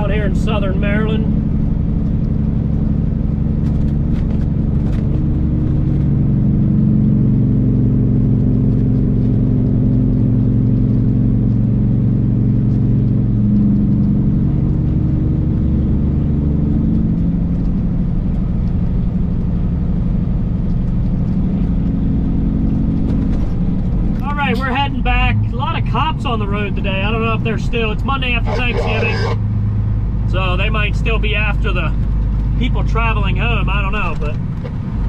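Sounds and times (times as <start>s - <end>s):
truck diesel engine drone: 0.0s - 35.0s.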